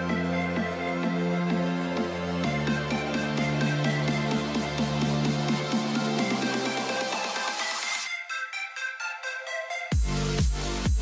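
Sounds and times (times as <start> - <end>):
electronic instrumental music: 0.0 - 11.0.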